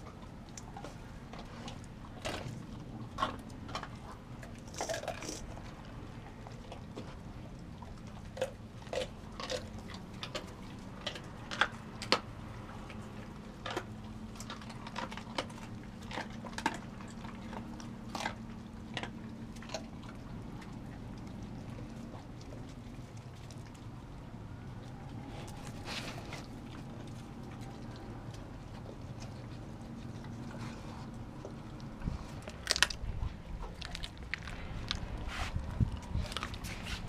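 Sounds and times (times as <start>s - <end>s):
dogs crunching food from metal bowl: 0.0s - 37.0s
steady low hum: 0.0s - 37.0s.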